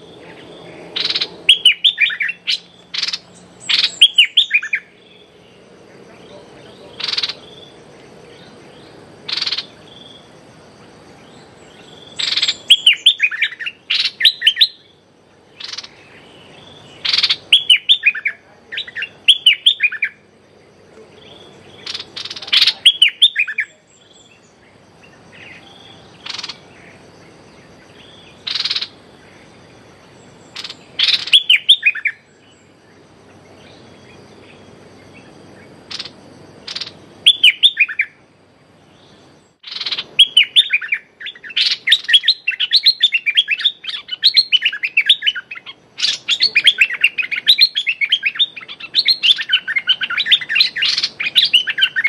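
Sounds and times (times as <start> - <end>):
bulbul calling: 0.0 - 38.2, 38.8 - 52.0.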